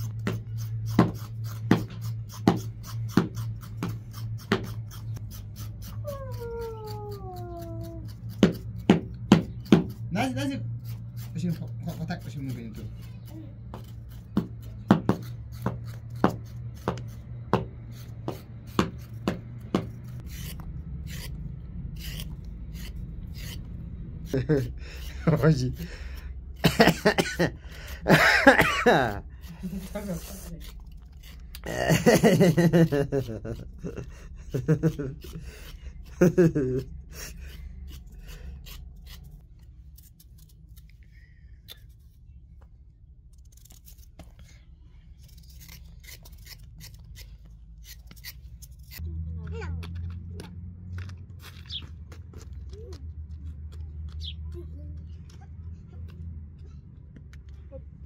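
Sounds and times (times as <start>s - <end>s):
knife scraping carrot: 0.0s - 42.3s, 43.3s - 49.0s.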